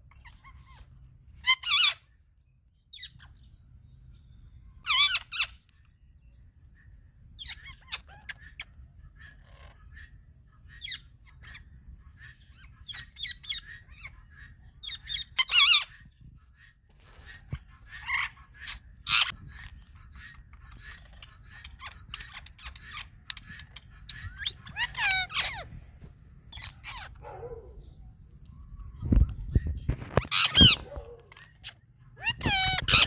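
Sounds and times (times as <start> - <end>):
parakeet squawks: 0.0 - 2.2, 4.8 - 5.9, 6.7 - 28.0, 28.8 - 33.0
parakeets calling: 0.0 - 33.0.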